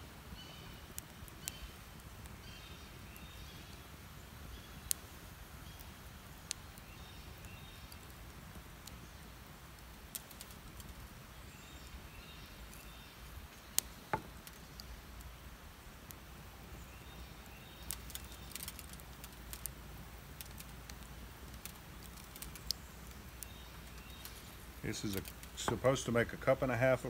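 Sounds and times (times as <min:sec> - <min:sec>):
wood fire crackling and popping: 0:00.1 - 0:27.0.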